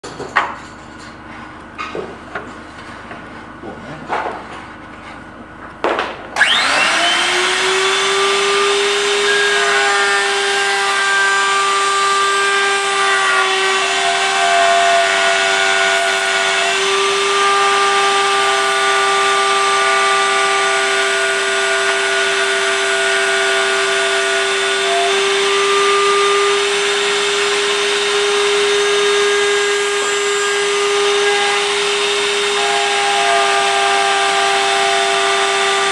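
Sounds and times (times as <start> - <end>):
router whining while cutting wood: 6.4 - 35.9.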